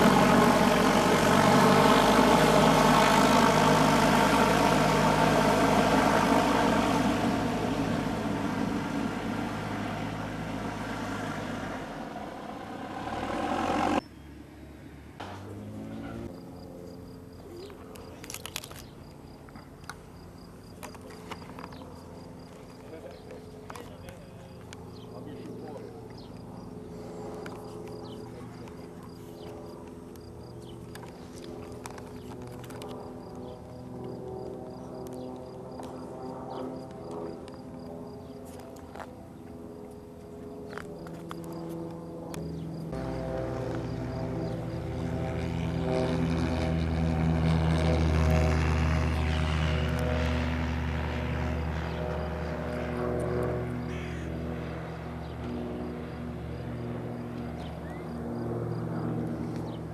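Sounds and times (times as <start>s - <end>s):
light aircraft piston engine: 0.0s - 59.9s.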